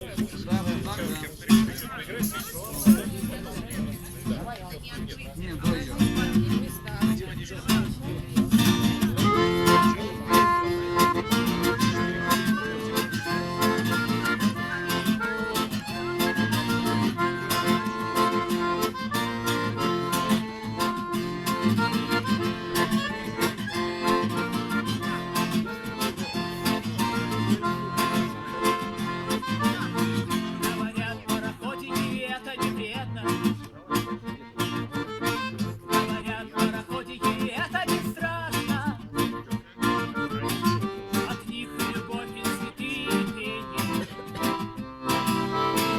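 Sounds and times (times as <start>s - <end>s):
acoustic guitar strumming: 0.0s - 45.9s
harmonica melody: 8.5s - 45.9s.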